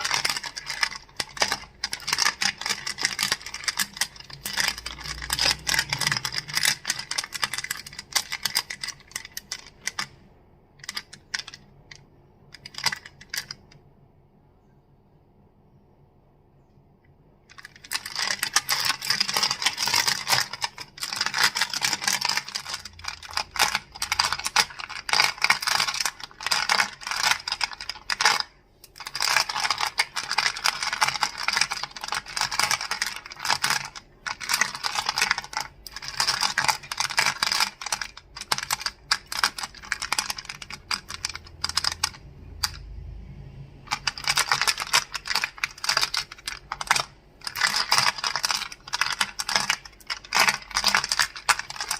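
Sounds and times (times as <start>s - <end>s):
crystals clicking: 0.0s - 10.2s, 17.5s - 42.9s, 43.9s - 51.9s.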